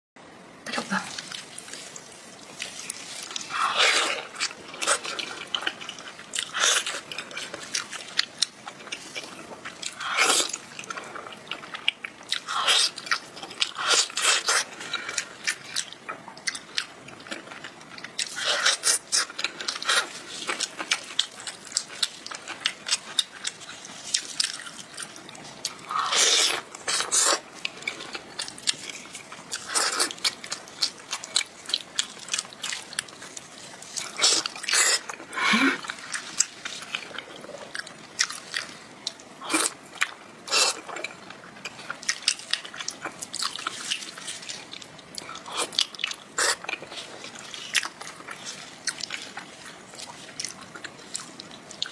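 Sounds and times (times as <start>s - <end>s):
mouth chewing meat: 0.8s - 51.9s.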